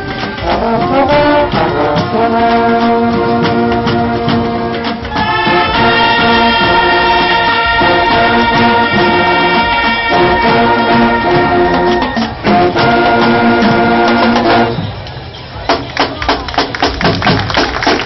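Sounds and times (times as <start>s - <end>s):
brass section playing chords: 0.0s - 14.8s.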